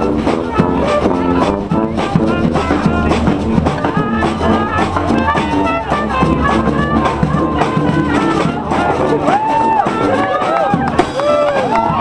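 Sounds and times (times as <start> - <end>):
brass band playing: 0.0 - 12.0
percussion beat: 0.0 - 12.0.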